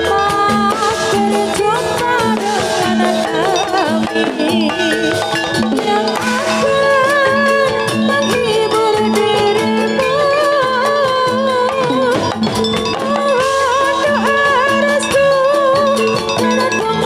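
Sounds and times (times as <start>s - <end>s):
rapid drum strokes: 0.0s - 17.0s
wavering melody line: 0.0s - 17.0s.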